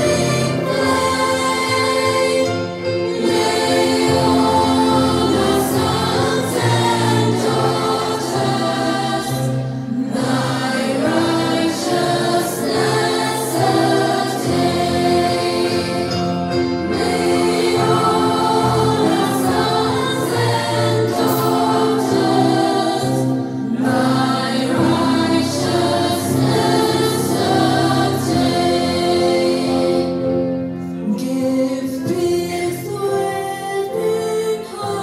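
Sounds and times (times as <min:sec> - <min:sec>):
women singing together: 0:00.0 - 0:30.5, 0:31.1 - 0:35.0
musical accompaniment: 0:00.0 - 0:35.0.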